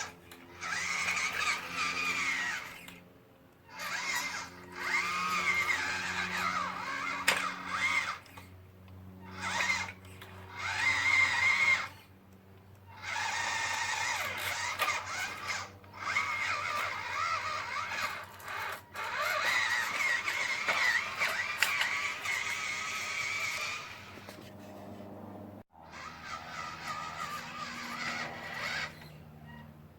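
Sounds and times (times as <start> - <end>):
electric motor and gearbox whining: 0.0 - 29.9
steady low hum: 0.0 - 29.9.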